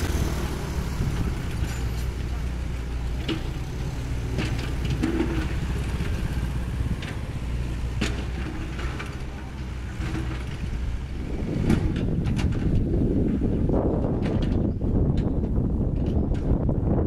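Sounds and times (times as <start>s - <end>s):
excavator diesel engine running: 0.0s - 14.3s.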